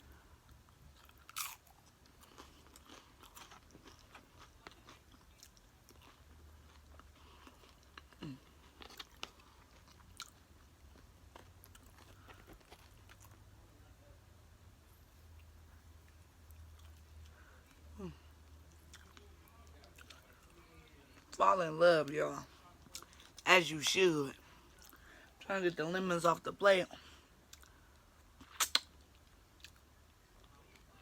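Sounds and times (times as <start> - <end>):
chewing and crunching chips: 0.0 - 14.0, 15.1 - 31.0.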